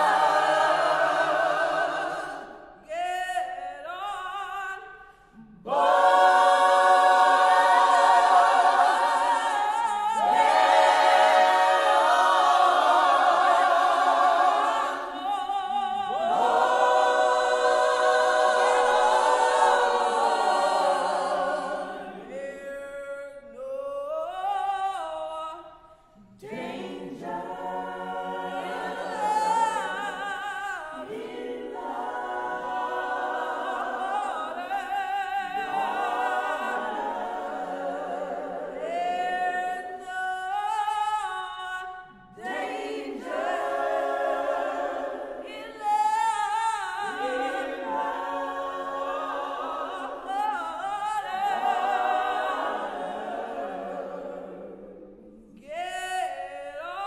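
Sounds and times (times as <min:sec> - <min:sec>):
mixed choir singing gospel: 0:00.0 - 0:57.0.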